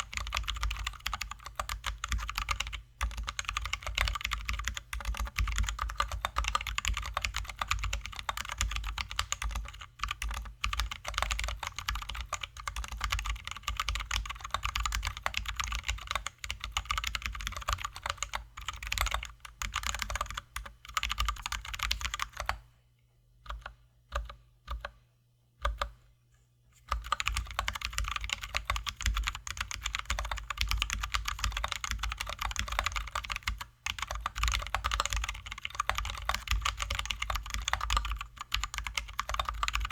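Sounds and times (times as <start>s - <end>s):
typing on mechanical keyboard: 0.0s - 22.6s, 26.9s - 39.9s.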